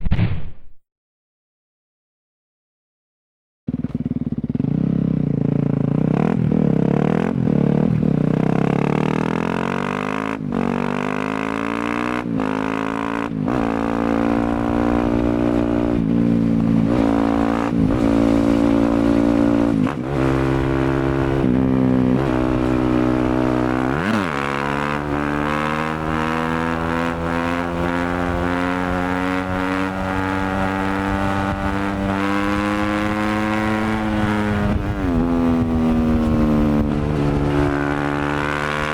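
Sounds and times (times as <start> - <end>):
motorcycle engine revving: 3.7 - 38.9.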